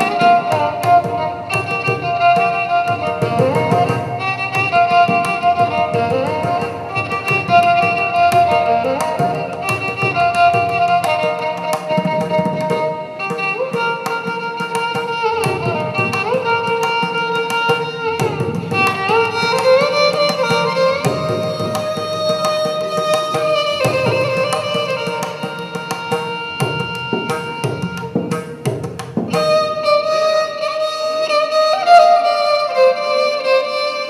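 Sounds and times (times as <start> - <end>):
percussion strokes: 0.0 - 34.0
violin melody with slides: 0.0 - 34.0.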